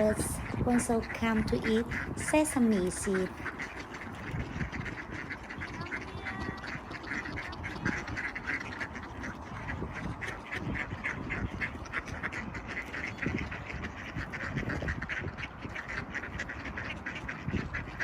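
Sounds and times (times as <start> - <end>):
steady low rumble: 0.0 - 16.8
ducks quacking: 0.0 - 18.0.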